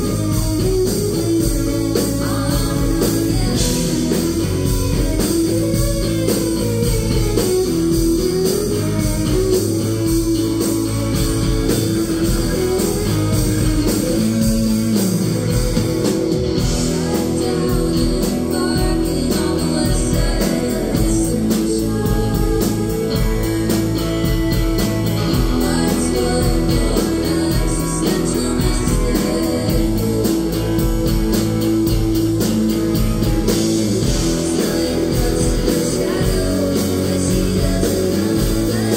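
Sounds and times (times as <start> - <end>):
person singing: 0.0 - 24.1, 25.1 - 31.6, 33.5 - 38.9
live rock band: 0.0 - 38.9.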